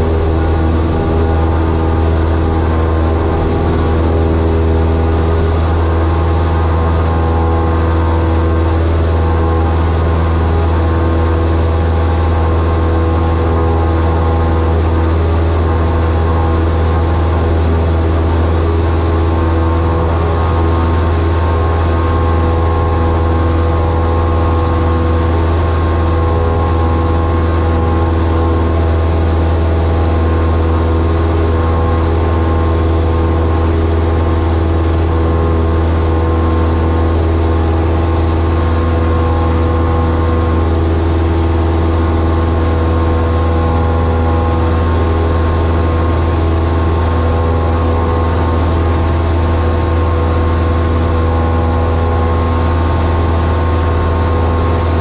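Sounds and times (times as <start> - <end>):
propeller aircraft engine droning: 0.0 - 55.0.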